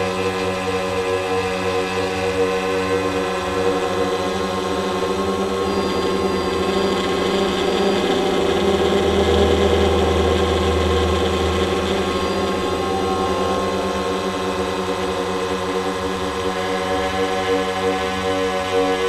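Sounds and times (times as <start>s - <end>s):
drone propellers humming: 0.0s - 19.0s.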